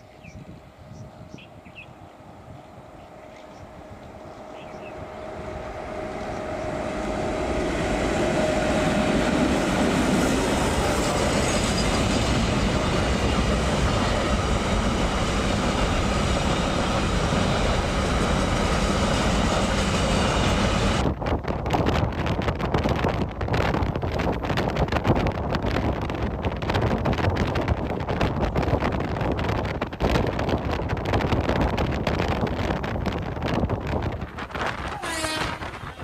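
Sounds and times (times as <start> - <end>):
train passing at speed: 0.0 - 36.0
wind buffeting microphone: 0.0 - 36.0.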